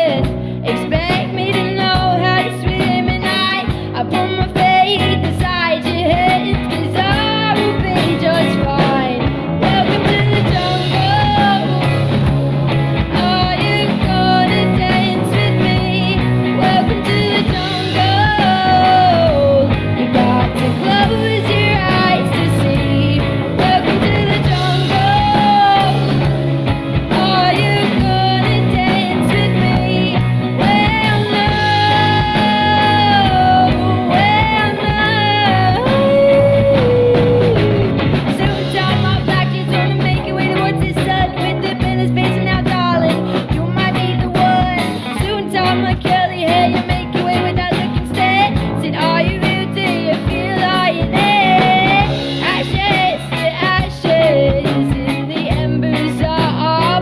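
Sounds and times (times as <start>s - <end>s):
person singing: 0.0s - 57.0s
rock band with electric guitar: 0.0s - 57.0s.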